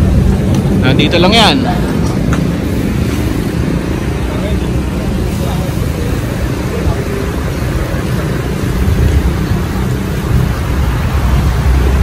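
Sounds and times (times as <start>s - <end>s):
road noise: 0.0s - 12.0s
wind rumbling on microphone: 0.0s - 12.0s.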